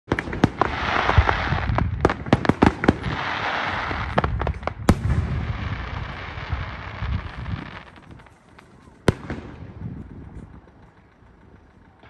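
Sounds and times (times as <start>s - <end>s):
fireworks bangs: 0.1s - 11.0s.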